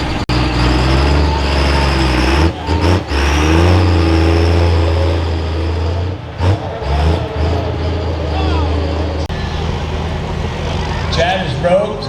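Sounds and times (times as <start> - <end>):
diesel truck engine revving hard: 0.0 - 12.0.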